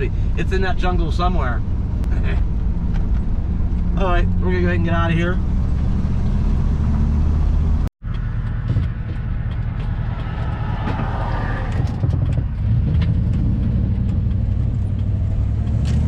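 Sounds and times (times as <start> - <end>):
van engine and road noise: 0.0 - 16.0.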